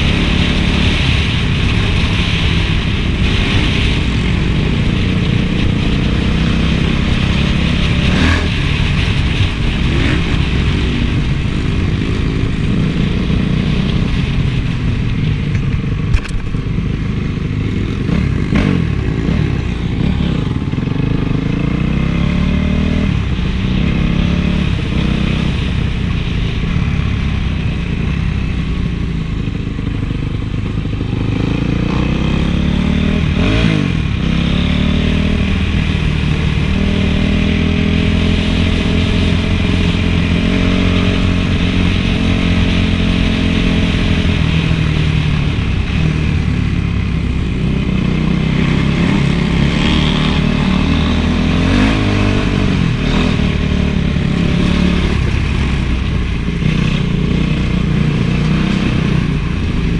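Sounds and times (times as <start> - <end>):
motocross engine revving: 0.0 - 14.2, 17.5 - 25.7, 29.8 - 59.9.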